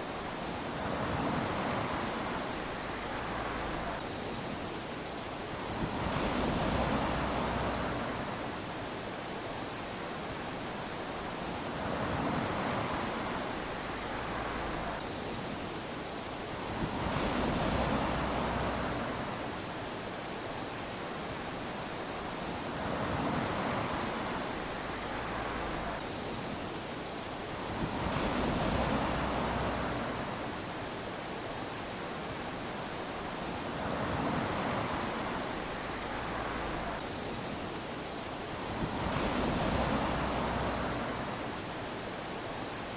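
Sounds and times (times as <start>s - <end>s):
small waves lapping on beach: 0.0s - 42.9s.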